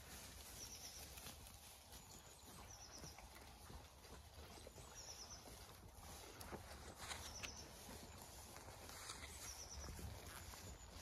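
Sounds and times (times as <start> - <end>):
soft steps on leaf litter: 0.0 - 11.0.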